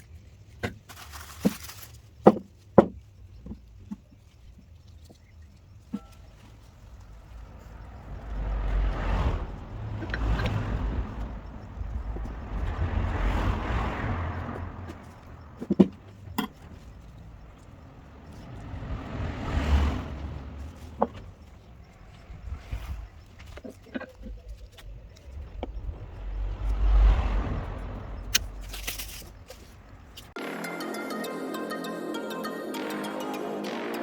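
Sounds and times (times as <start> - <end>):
road vehicles passing: 4.3 - 34.0.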